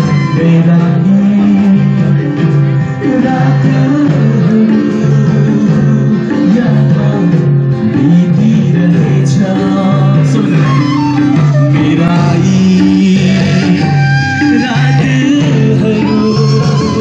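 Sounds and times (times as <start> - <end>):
gliding melody line: 0.0 - 17.0
guitar accompaniment: 0.0 - 17.0.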